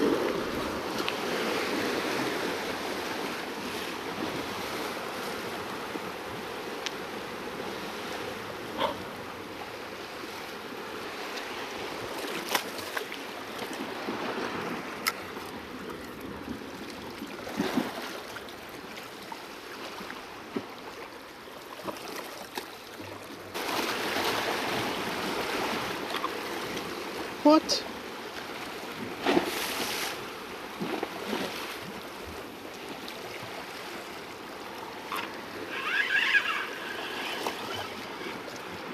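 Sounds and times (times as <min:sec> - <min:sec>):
seawater lapping against rocks: 0:00.0 - 0:38.9.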